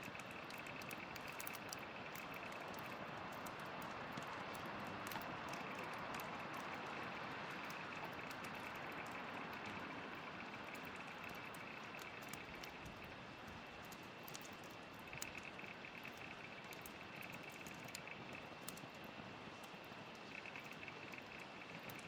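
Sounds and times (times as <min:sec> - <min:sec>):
campfire crackling and hissing: 0:00.0 - 0:22.0.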